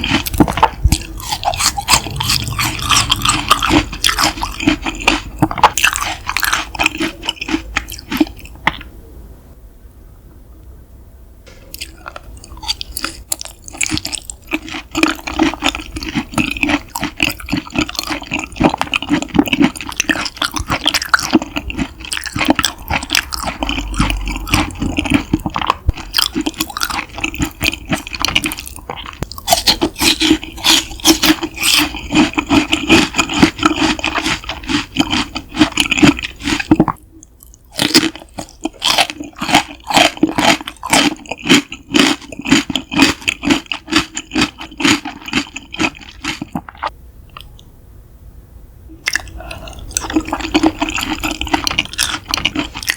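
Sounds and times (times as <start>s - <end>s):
wet sticky chewing: 0.0s - 8.9s, 11.7s - 47.6s, 49.0s - 52.9s.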